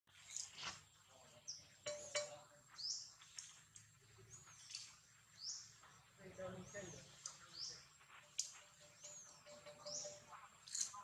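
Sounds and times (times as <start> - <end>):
bird chirping: 0.2 - 11.0.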